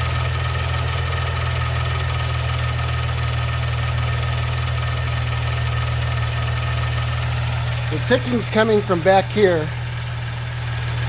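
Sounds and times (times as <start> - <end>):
car engine idling: 0.0 - 11.0
fuel pump ticking: 0.1 - 11.0.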